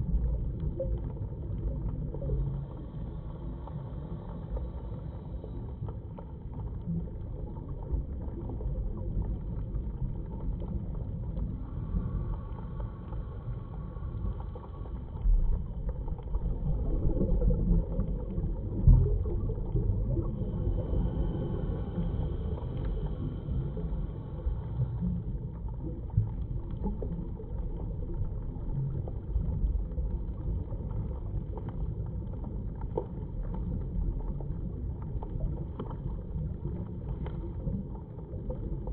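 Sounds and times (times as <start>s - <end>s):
underwater low rumble with crackling: 0.0s - 38.9s.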